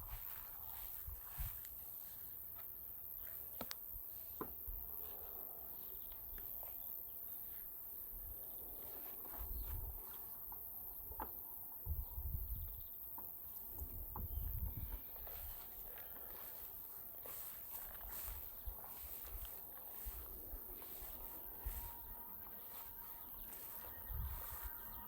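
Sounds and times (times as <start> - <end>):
faint insect chirping: 0.0 - 25.0.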